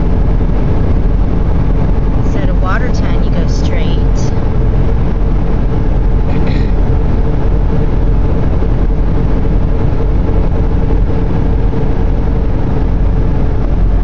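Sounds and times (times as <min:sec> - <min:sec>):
car road and engine noise: 0:00.0 - 0:14.0
faint steady hum: 0:00.0 - 0:14.0.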